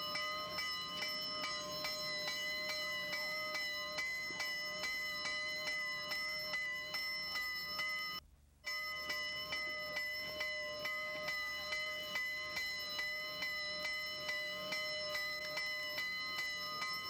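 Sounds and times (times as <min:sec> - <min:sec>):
steam locomotive bell ringing: 0:00.0 - 0:17.0.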